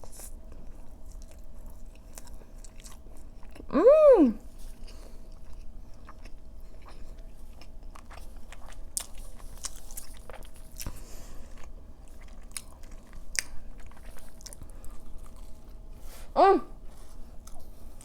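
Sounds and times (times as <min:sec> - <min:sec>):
person chewing food: 0:00.0 - 0:03.7, 0:04.5 - 0:16.1, 0:16.8 - 0:18.0.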